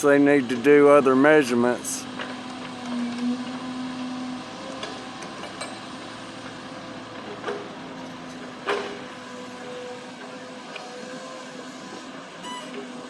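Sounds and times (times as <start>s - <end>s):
diesel machinery running: 0.0s - 13.0s.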